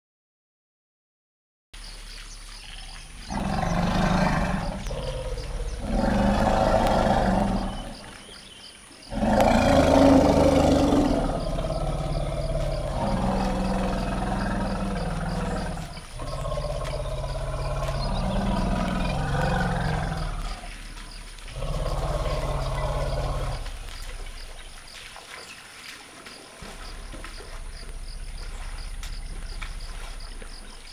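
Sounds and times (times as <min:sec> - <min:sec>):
elephant rumbles: 0:02.7 - 0:08.3, 0:09.1 - 0:25.0, 0:26.3 - 0:30.9.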